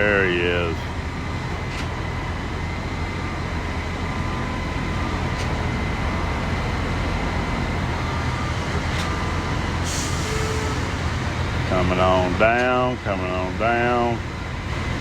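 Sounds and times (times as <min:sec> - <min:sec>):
heavy diesel engines rumbling: 0:00.0 - 0:15.0.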